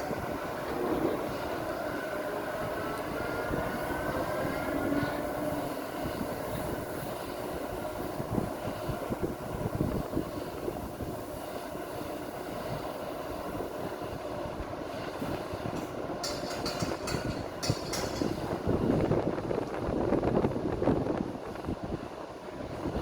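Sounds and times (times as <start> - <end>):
heavy machinery rumbling: 0.0 - 12.1, 14.0 - 23.0.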